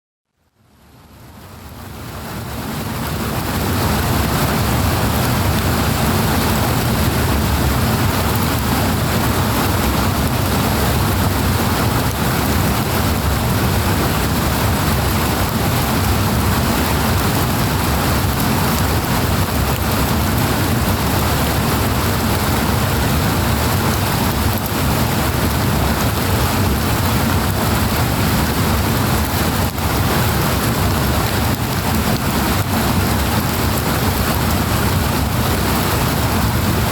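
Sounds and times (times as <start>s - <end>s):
rushing water roar: 0.7s - 36.9s.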